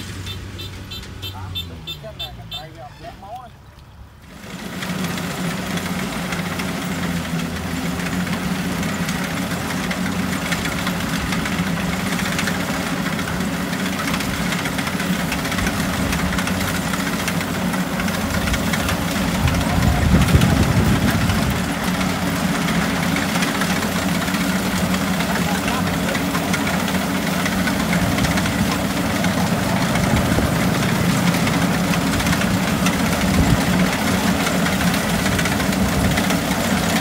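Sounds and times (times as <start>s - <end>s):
combine harvester running: 0.0s - 3.4s, 4.2s - 37.0s.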